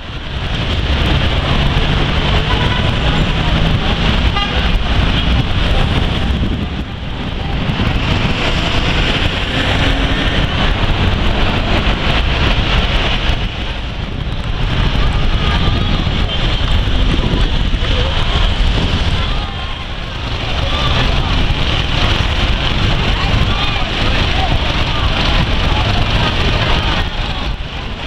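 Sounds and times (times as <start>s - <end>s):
buses and cars engine hum: 0.0s - 28.0s.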